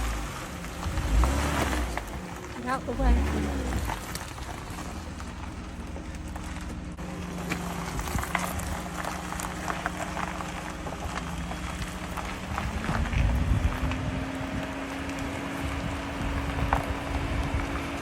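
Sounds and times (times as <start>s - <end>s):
road noise: 0.0s - 18.0s
van engine: 0.0s - 18.0s.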